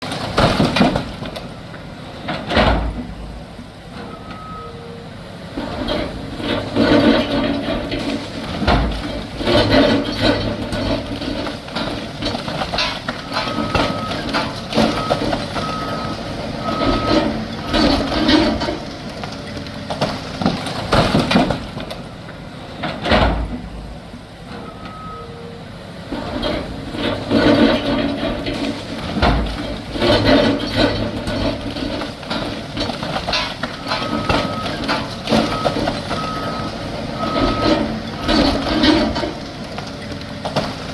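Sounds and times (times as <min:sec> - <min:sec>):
debris crashing and scraping: 0:00.0 - 0:04.6, 0:05.5 - 0:25.2, 0:26.1 - 0:40.9
heavy equipment running: 0:00.0 - 0:40.9.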